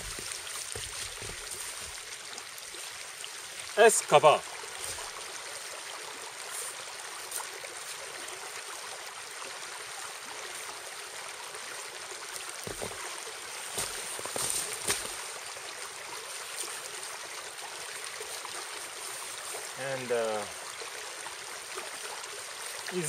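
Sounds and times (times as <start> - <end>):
small stream rushing: 0.0 - 23.0.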